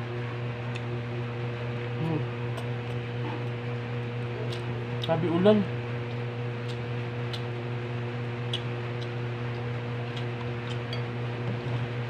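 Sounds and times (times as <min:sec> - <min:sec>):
electric hum: 0:00.0 - 0:12.0.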